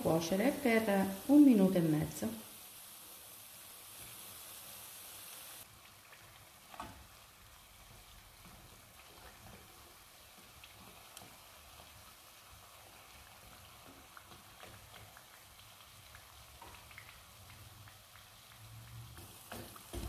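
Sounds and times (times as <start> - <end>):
fritters deep-frying sizzle: 0.0 - 20.0.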